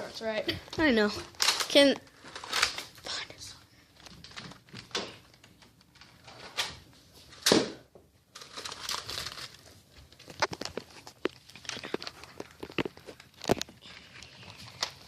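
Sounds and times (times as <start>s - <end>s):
rustling and handling noise: 0.0s - 15.0s.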